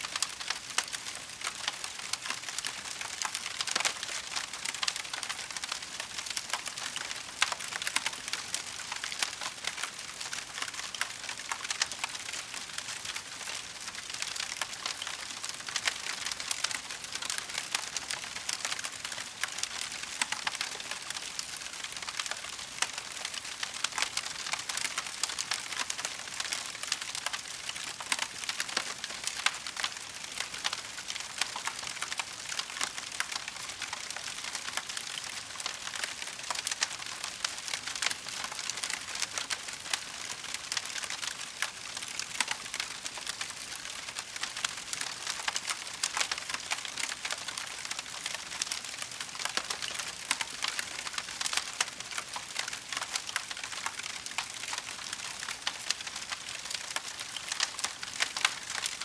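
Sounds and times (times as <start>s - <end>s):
wood fire crackling: 0.2s - 59.0s.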